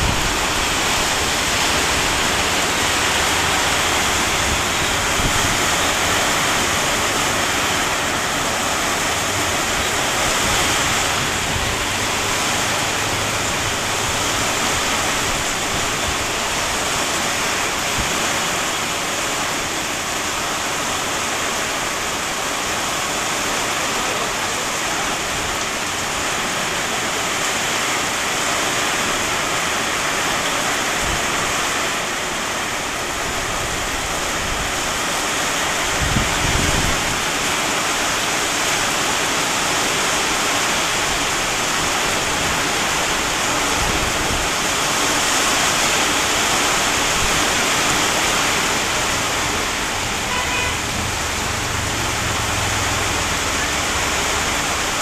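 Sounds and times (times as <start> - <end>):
heavy rain on street and cars: 0.0 - 55.0.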